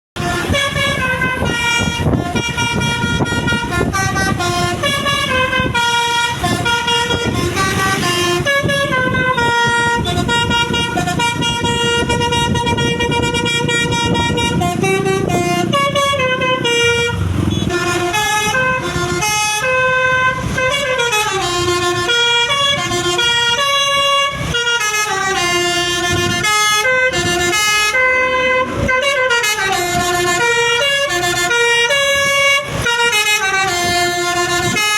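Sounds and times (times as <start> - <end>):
bus engine running: 0.2 - 34.9
multi-tone air horn melody: 0.2 - 34.9.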